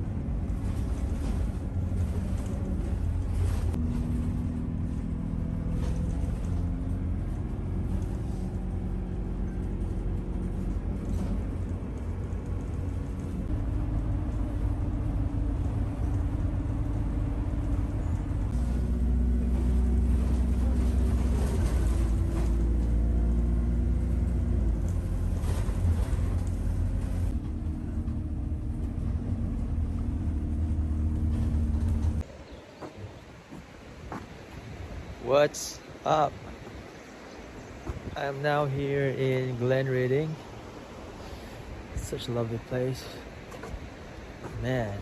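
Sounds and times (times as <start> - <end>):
bus engine running: 0.0 - 45.0
road rumble: 0.0 - 45.0.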